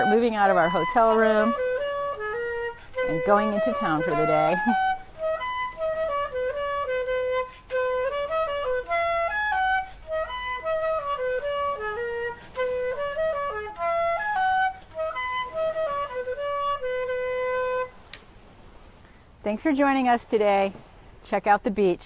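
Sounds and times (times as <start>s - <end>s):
flute-like melody: 0.0s - 18.1s.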